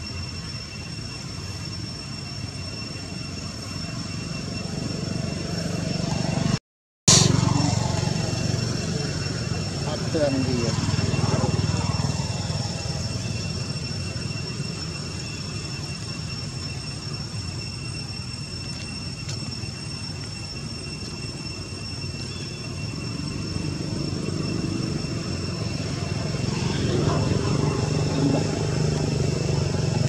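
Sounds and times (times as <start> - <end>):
thin high-pitched whine: 0.0 - 30.0.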